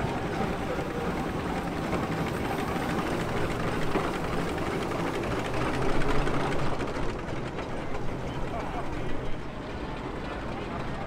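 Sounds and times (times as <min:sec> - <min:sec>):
steam engine running steadily: 0:00.0 - 0:11.0.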